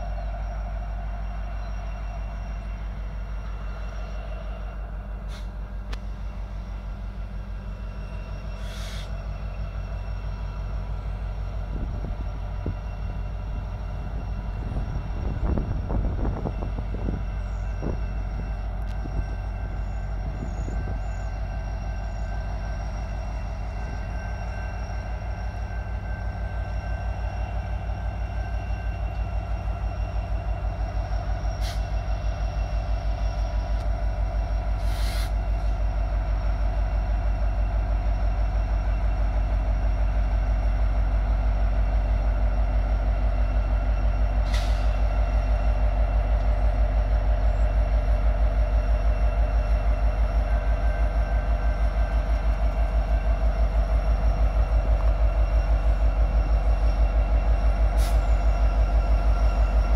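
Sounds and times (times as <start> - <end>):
diesel locomotive engines rumbling: 0.0 - 59.9.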